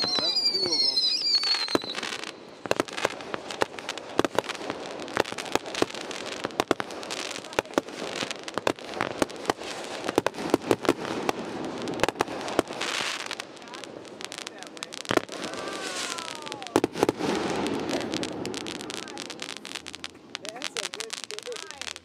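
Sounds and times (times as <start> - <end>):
crackling hiss: 0.0 - 22.0
fireworks popping and crackling: 0.0 - 22.0.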